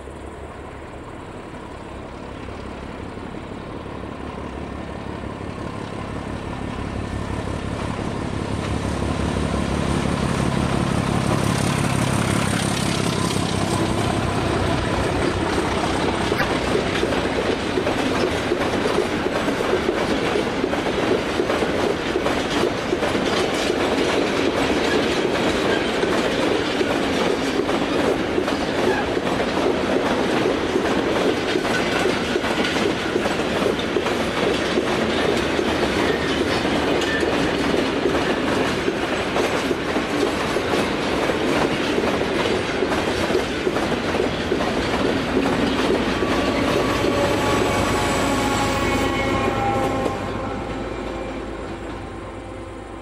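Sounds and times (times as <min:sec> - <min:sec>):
diesel locomotive engines: 0:00.0 - 0:53.0
train wheels clickety-clack: 0:05.6 - 0:52.2.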